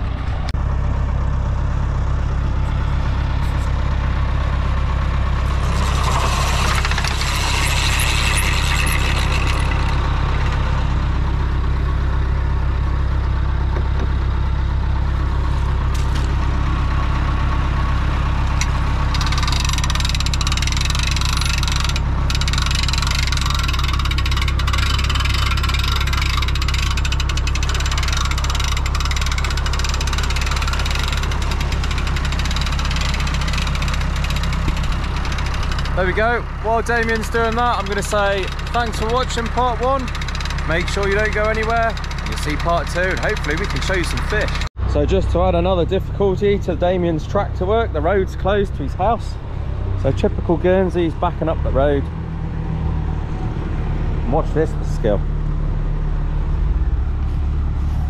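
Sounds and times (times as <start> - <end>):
tractor engine throbbing: 0.0 - 58.0.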